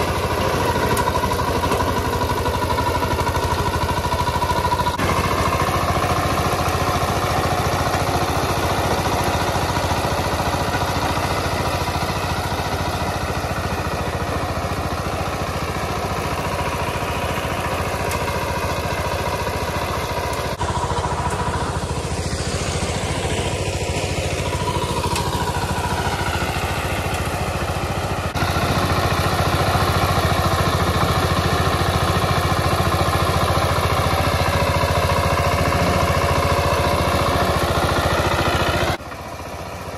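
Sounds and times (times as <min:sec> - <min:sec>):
diesel engine running under load: 0:00.0 - 0:39.9
rotary tiller working soil: 0:00.0 - 0:39.9.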